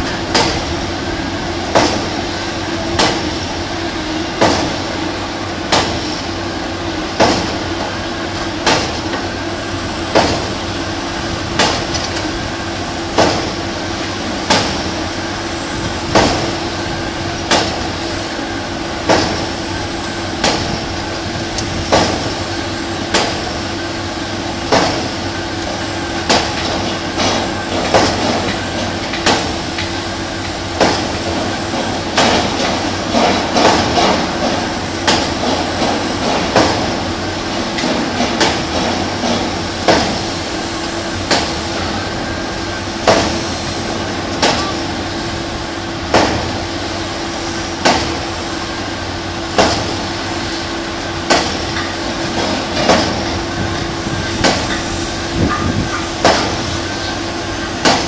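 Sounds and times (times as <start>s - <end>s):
heavy machinery droning: 0.0s - 58.0s.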